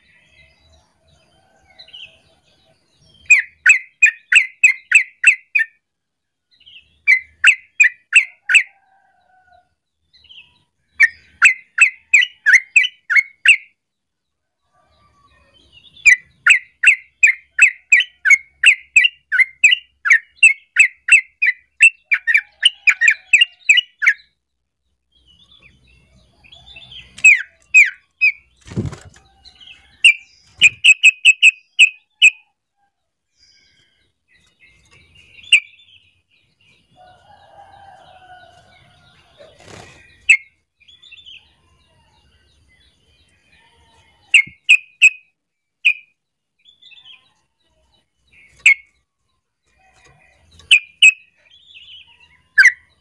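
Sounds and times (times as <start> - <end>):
bird singing chattering song: 0.0 - 5.8, 6.5 - 8.7, 10.0 - 13.8, 15.2 - 32.6, 33.3 - 53.0.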